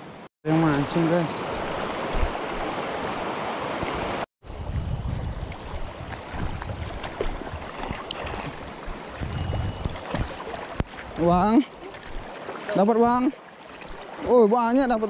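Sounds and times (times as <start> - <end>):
river water rushing: 0.5 - 4.2, 6.2 - 14.9.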